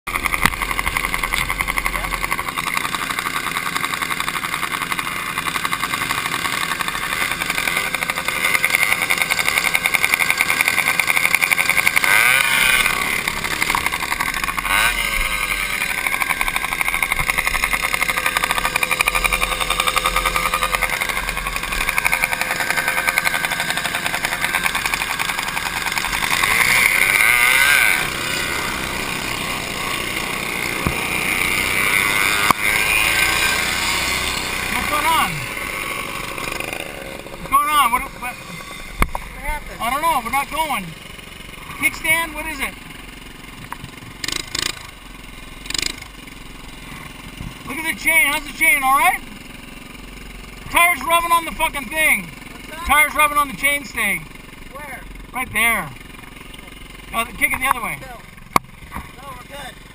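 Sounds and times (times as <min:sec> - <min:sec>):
small engine buzzing: 0:00.1 - 0:59.9.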